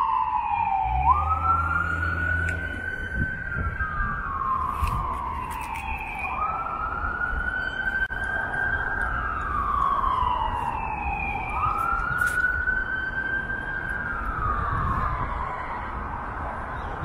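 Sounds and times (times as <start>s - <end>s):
emergency siren wailing: 0.0s - 17.0s
low traffic rumble: 0.0s - 17.0s.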